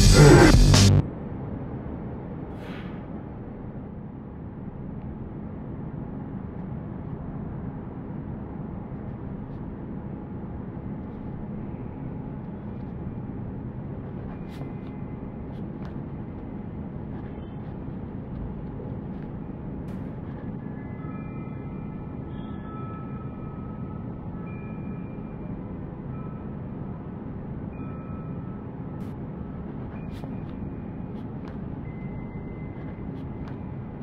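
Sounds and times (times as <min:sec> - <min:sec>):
steady low rumble: 0:00.0 - 0:22.3, 0:28.5 - 0:34.0.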